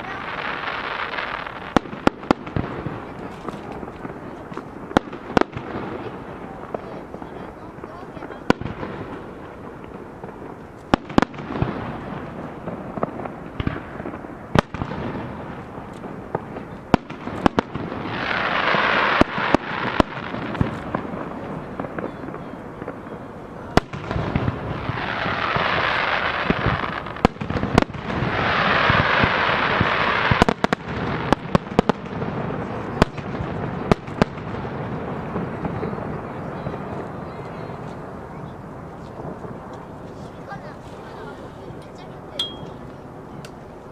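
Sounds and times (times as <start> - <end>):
firework crackling: 0.0 - 43.9.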